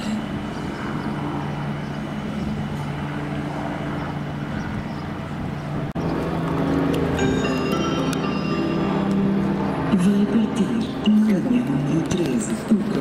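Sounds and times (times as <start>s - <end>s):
electric train traction hum: 0.0s - 13.0s.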